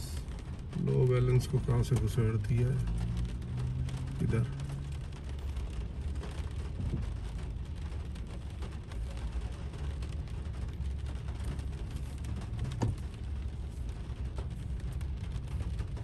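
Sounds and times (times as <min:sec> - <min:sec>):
raindrops ticking on car roof: 0:00.0 - 0:16.0.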